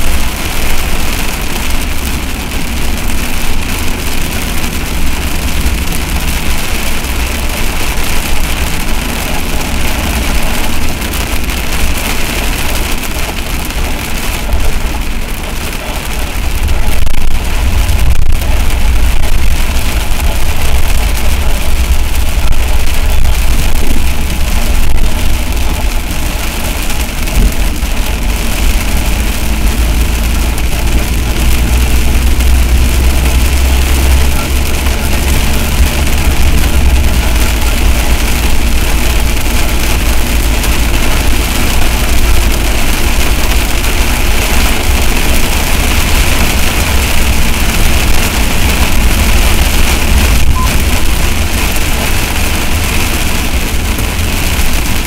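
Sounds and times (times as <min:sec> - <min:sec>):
heavy rain on a vehicle: 0:00.0 - 0:55.0
vehicle low rumble: 0:00.0 - 0:55.0.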